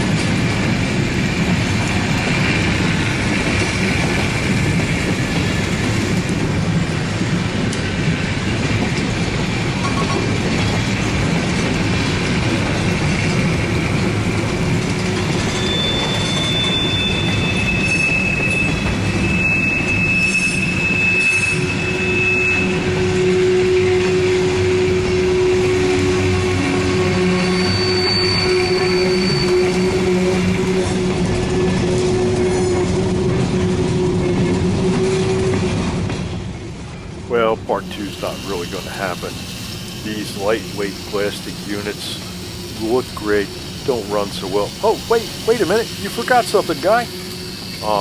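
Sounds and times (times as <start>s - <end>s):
train cars rolling: 0.0s - 48.0s
high wheel squeals: 1.8s - 35.7s, 37.3s - 48.0s.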